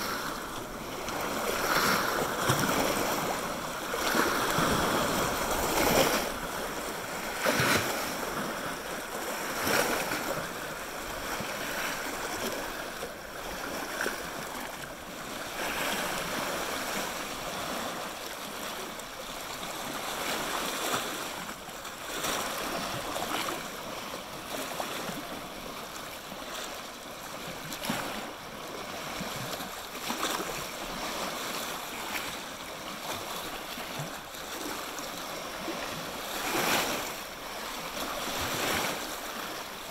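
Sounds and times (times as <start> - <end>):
waves lapping on rock: 0.0 - 39.9.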